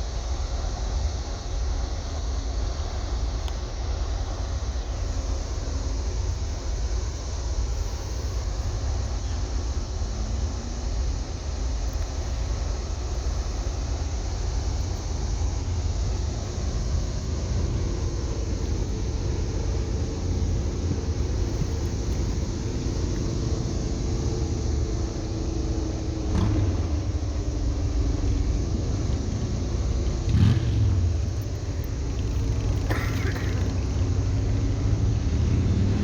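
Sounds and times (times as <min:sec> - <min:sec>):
faint steady tones: 0:00.0 - 0:36.0
boat engine rumbling: 0:04.1 - 0:36.0.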